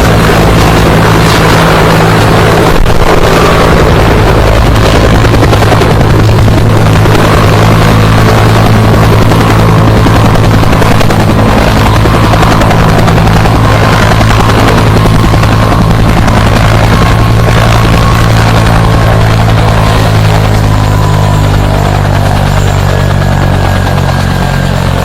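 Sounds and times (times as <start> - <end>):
helicopter running: 0.0 - 25.0.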